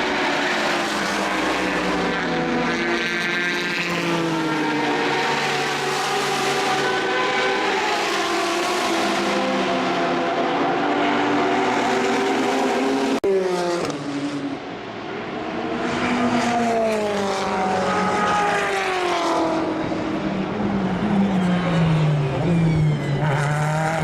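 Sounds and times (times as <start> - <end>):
car accelerating: 0.0 - 24.0
racing car engines revving: 0.0 - 24.0.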